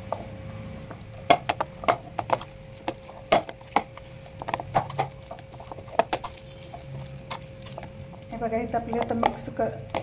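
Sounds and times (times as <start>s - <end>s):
dough slapping against metal bowl: 1.2s - 10.0s.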